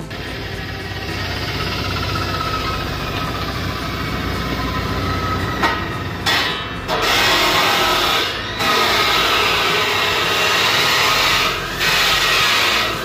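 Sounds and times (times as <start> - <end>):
abrasive disc cutting steel sheet: 0.0 - 13.0
power cutter running with whine: 0.0 - 13.0.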